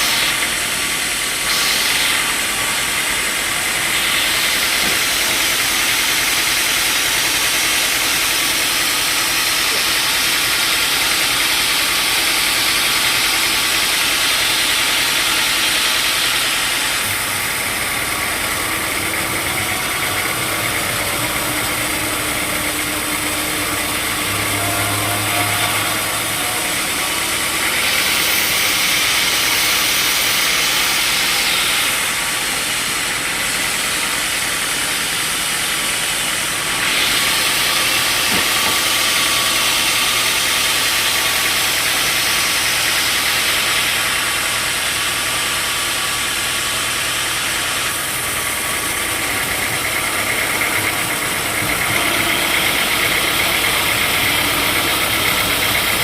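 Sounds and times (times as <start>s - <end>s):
saw hissing through timber: 0.0s - 56.0s
saw machine drone: 0.0s - 56.0s.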